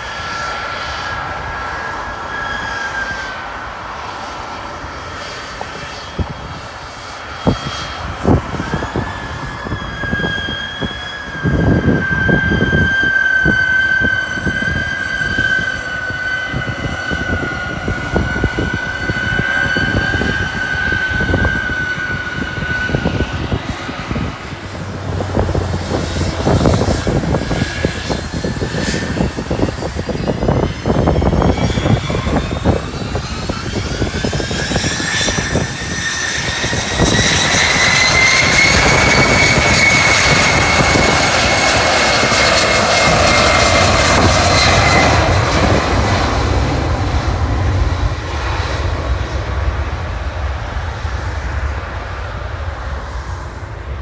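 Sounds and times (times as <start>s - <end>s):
jet engines whining: 0.0s - 54.0s
wind buffeting microphone: 0.0s - 54.0s.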